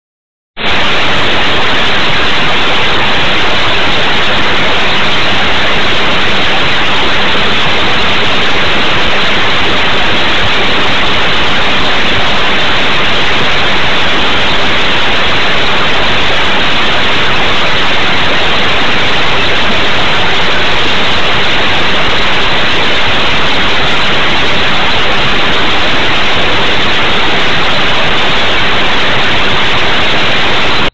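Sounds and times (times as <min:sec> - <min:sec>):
loud static hiss: 0:00.6 - 0:30.9.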